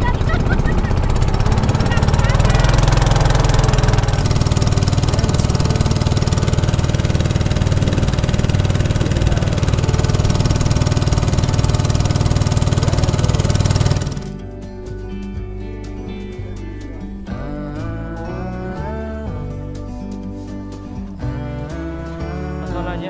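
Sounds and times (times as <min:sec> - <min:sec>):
boat engine droning: 0:00.0 - 0:22.2.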